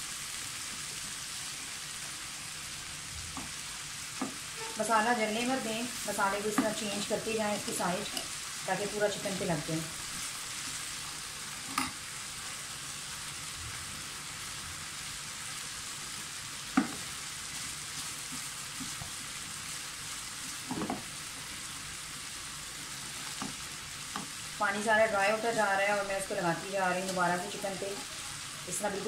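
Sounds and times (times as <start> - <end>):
chicken sizzling in a frying pan: 0.0 - 29.0.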